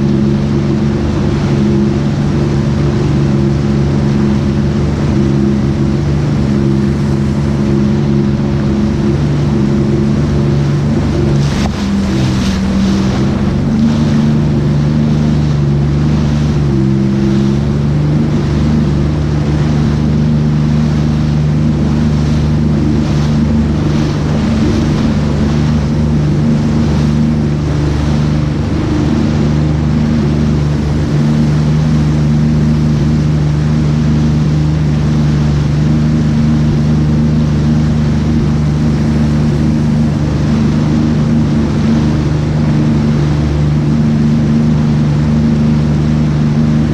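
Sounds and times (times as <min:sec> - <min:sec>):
jet ski engine: 0:00.0 - 0:46.9
water slapping against hull: 0:00.0 - 0:46.9.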